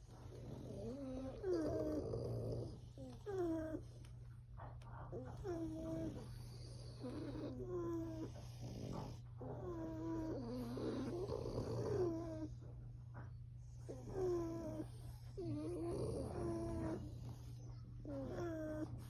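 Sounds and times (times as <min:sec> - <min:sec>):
pet snoring with whistling tone: 0:00.3 - 0:03.7, 0:05.4 - 0:12.5, 0:13.8 - 0:19.0.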